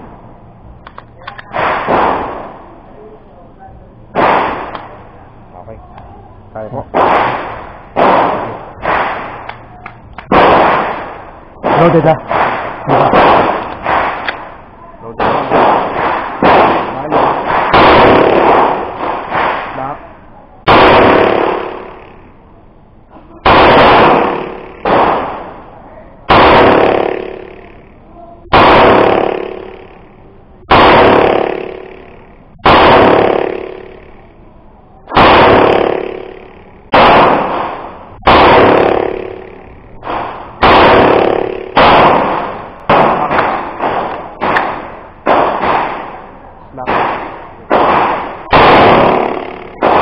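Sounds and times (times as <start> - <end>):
pistol shots with echo: 1.3 - 2.7, 4.1 - 5.1, 6.8 - 9.6, 10.2 - 22.4, 23.4 - 27.9, 28.5 - 34.3, 35.1 - 50.0.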